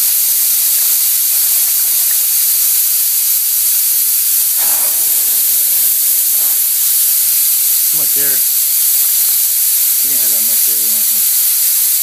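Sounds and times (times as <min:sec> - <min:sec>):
compressed air hissing: 0:00.0 - 0:12.0.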